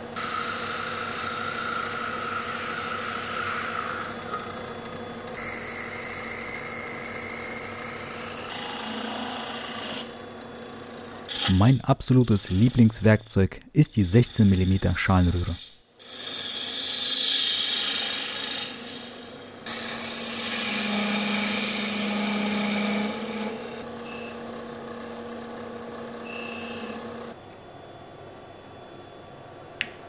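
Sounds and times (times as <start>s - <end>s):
lathe motor hum: 0.0s - 13.2s, 14.0s - 27.4s
gouge scraping spinning wood: 0.2s - 27.4s.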